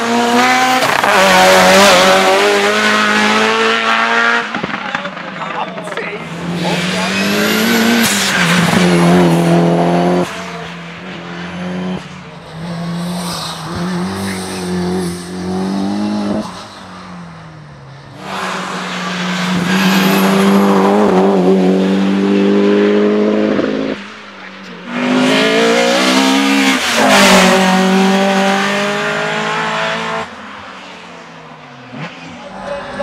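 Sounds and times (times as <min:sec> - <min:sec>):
race car engines at high revs: 0:00.0 - 0:33.0.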